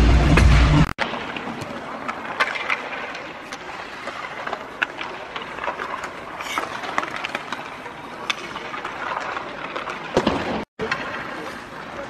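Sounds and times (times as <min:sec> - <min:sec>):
clicks of sticks and pucks: 0:01.0 - 0:12.0
skate blades scraping ice: 0:01.0 - 0:12.0.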